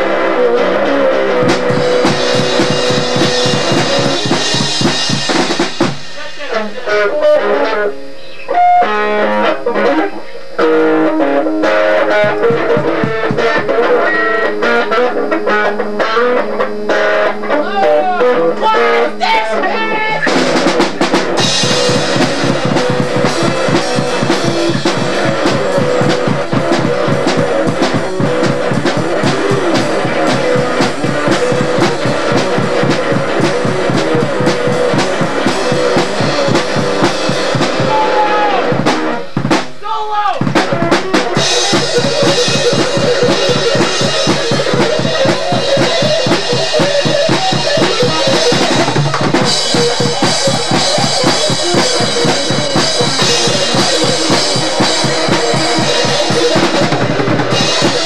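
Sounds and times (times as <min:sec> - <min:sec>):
drum kit playing fast: 0:00.0 - 0:58.0
guitar line: 0:00.0 - 0:58.0.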